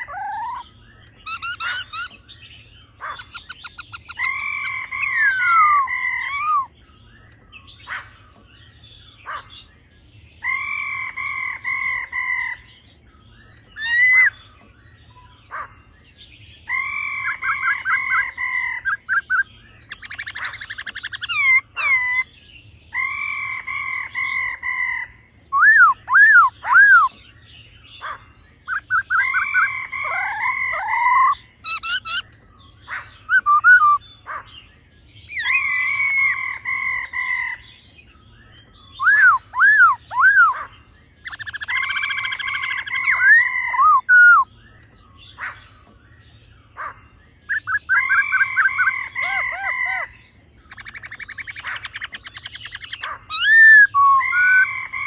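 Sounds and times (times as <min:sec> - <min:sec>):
birds singing whistled phrases: 0:00.0 - 0:55.0.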